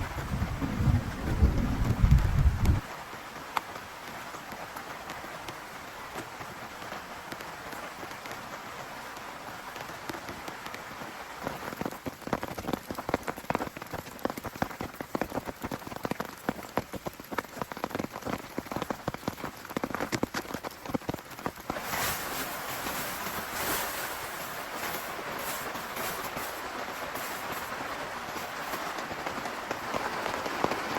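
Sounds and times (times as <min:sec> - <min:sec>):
heavy rain on a tent: 0:00.0 - 0:30.9
sharp taps of raindrops: 0:00.1 - 0:30.9.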